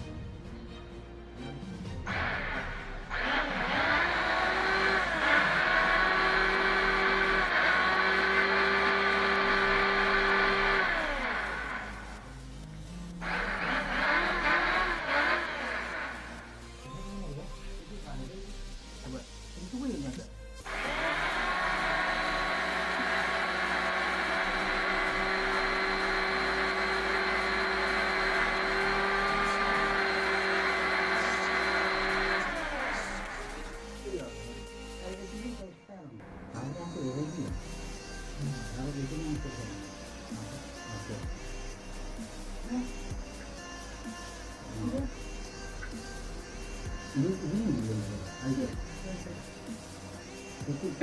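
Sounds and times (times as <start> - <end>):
electric planer motor whining: 2.1 - 16.9, 20.7 - 34.4, 36.2 - 51.0.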